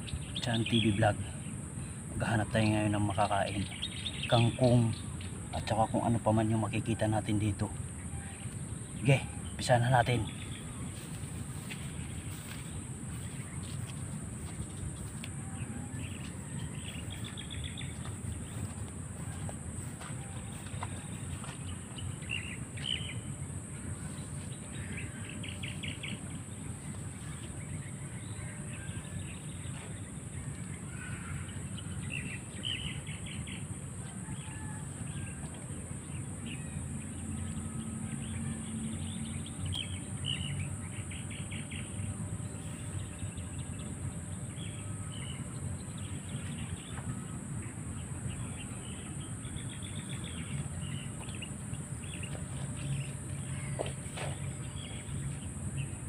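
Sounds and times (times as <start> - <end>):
high insect drone: 0.0 - 56.0
small birds chirping in trills: 0.0 - 56.0.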